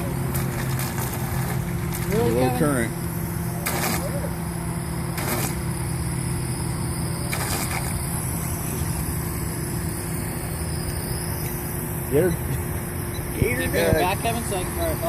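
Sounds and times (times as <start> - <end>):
motor humming steadily: 0.0 - 15.0.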